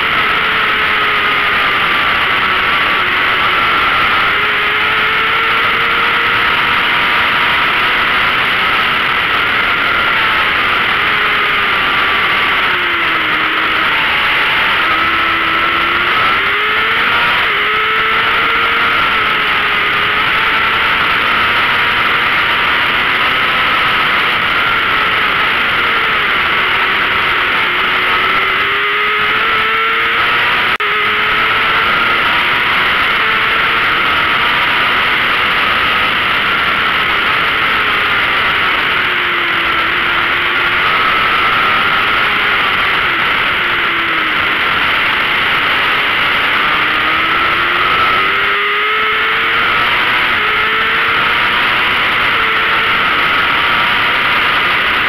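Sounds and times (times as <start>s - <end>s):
motorcycle engine revving: 0.0s - 55.0s
steady rush of noise: 0.0s - 55.0s.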